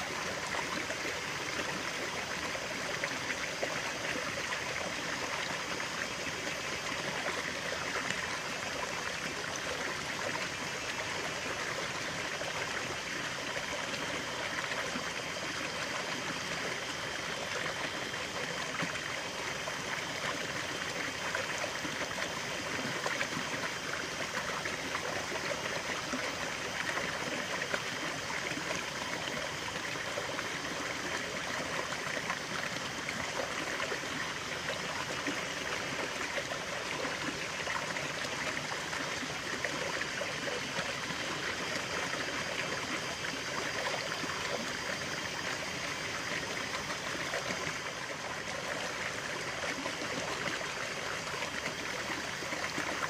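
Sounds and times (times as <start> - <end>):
stream water over rocks: 0.0 - 53.0.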